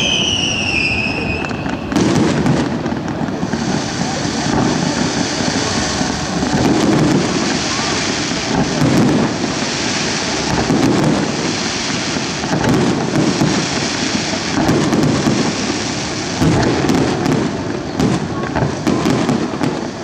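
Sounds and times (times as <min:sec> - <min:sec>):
sharp crackling: 0:00.0 - 0:19.9
firework booms: 0:00.0 - 0:20.0.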